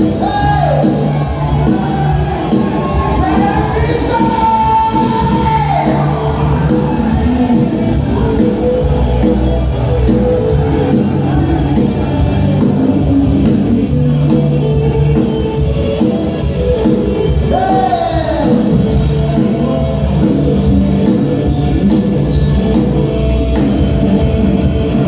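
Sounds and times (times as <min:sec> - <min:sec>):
live band playing dance music: 0:00.0 - 0:25.0.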